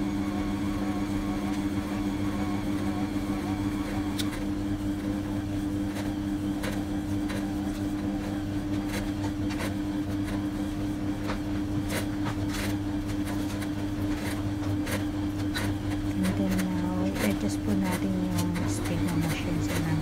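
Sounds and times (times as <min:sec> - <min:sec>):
stand mixer motor running: 0:00.0 - 0:20.0.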